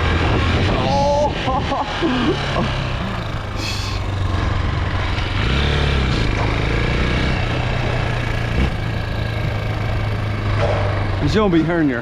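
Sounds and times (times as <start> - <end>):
dirt bike engine revving: 0.0 - 11.9.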